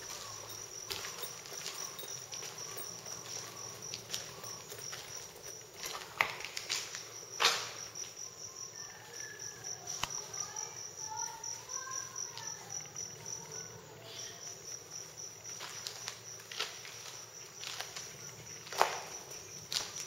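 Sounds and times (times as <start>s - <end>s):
insect chirping: 0.0s - 20.0s.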